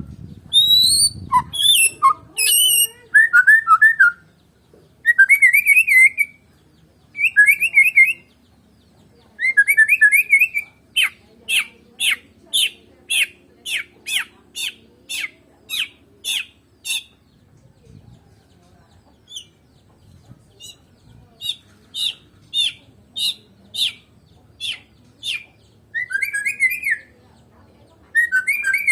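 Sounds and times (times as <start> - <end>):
bird warbling song: 0.0 - 28.9.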